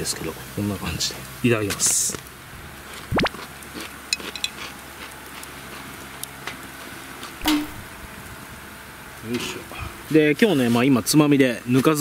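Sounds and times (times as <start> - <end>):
outdoor background: 0.0 - 12.0.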